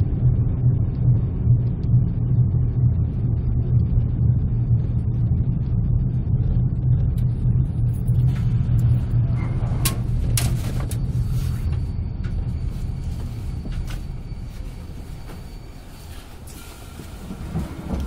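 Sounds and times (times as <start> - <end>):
train coach rumbling on rails: 0.0 - 18.0.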